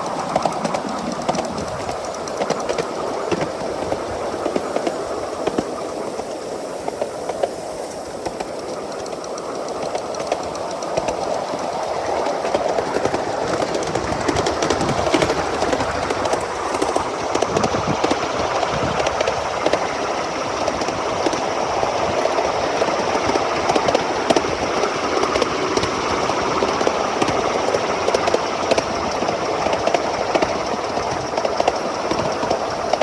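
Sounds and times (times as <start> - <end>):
steam locomotive running: 0.0 - 33.0
wheels clicking over rail joints: 0.0 - 33.0.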